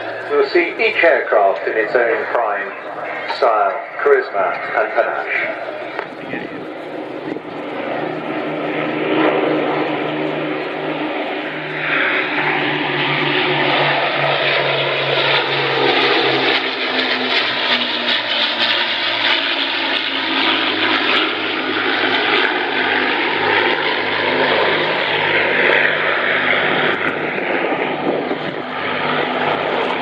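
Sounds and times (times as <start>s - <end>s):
aircraft engine drone passing: 0.0s - 30.0s.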